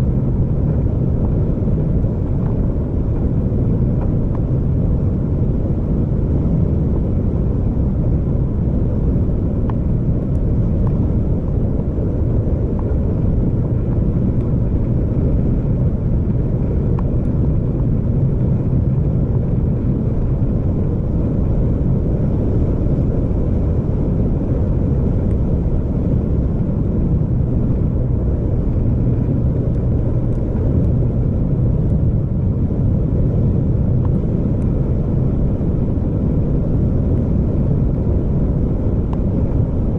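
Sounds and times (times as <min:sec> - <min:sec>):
vehicle rumble and road noise: 0:00.0 - 0:39.9.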